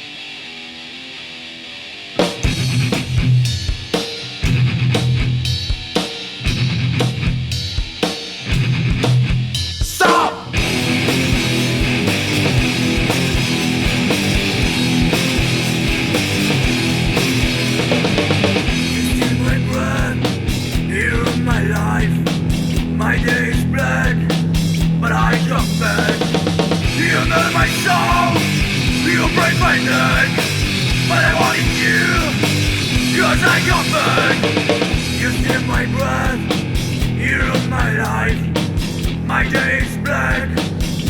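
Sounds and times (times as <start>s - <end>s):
metal band playing: 0.0s - 41.0s.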